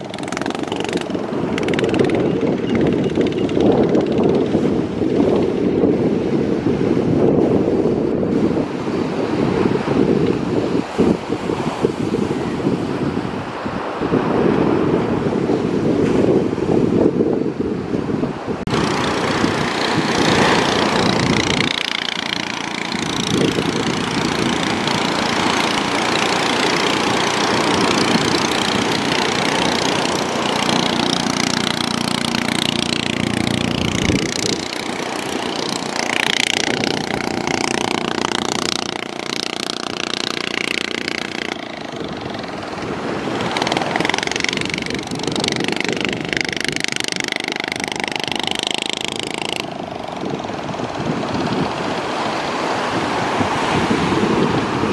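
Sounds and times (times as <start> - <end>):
outboard motor running: 0.0 - 14.2, 18.4 - 54.9
waves breaking: 0.0 - 16.8, 17.8 - 54.9.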